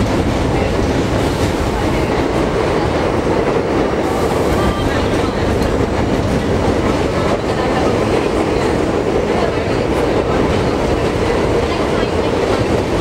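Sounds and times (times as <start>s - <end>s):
subway car wheels on rails: 0.0s - 13.0s.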